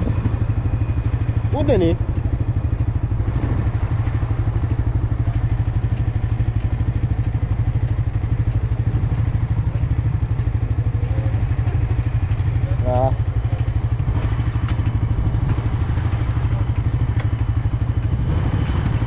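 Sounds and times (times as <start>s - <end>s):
motorcycle engine running at low revs: 0.0s - 19.0s.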